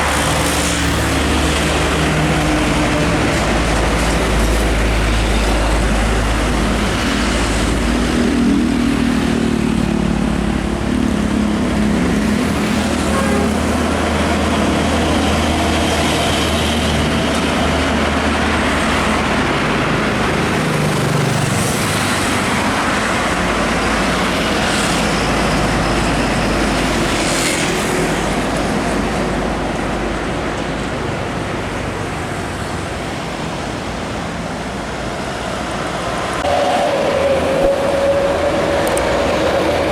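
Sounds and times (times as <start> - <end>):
heavy trucks passing: 0.0 - 39.9.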